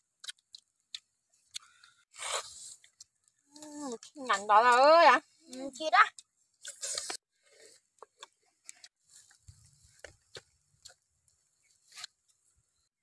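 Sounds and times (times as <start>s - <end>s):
people chewing meat: 0.0s - 4.7s, 5.4s - 12.8s.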